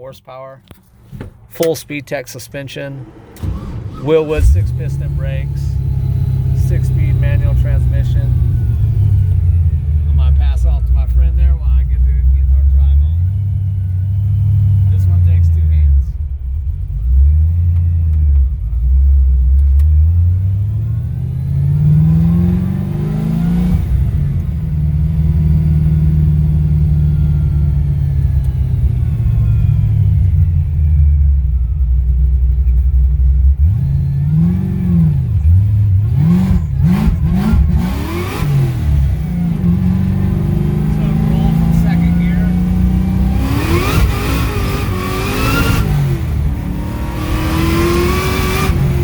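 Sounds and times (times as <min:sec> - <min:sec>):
supercharger whine: 0:01.4 - 0:49.0
car engine accelerating hard: 0:01.6 - 0:49.0.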